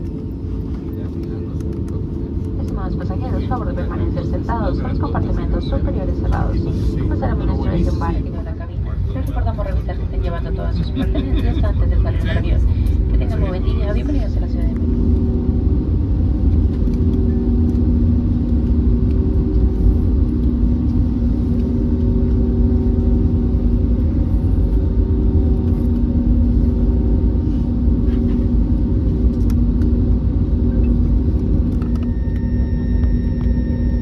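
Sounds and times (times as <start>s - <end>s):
aircraft cabin rumble and hum: 0.0s - 34.0s.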